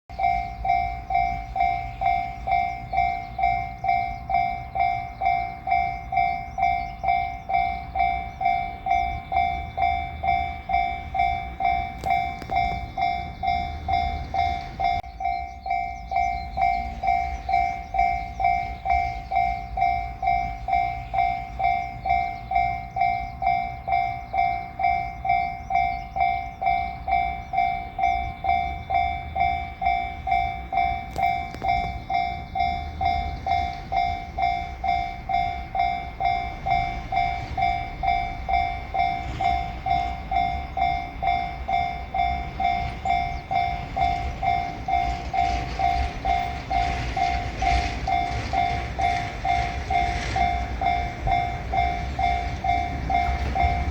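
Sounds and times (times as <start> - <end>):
level-crossing warning bell: 0.1 - 53.9.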